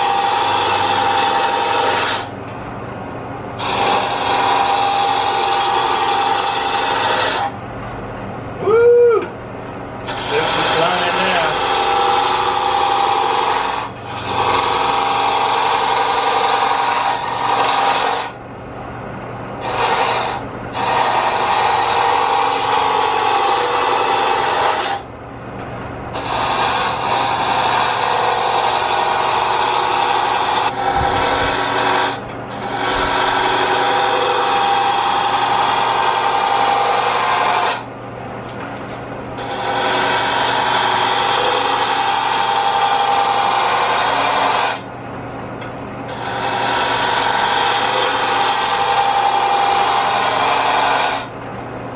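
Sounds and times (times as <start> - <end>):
gouge shaving wood on lathe: 0.0 - 2.3, 3.6 - 7.5, 10.0 - 18.4, 19.6 - 25.1, 26.2 - 37.9, 39.4 - 44.9, 46.1 - 51.3
lathe motor hum: 0.0 - 2.4, 3.6 - 7.5, 10.0 - 18.3, 19.6 - 25.0, 26.2 - 37.8, 39.4 - 44.8, 46.1 - 51.3.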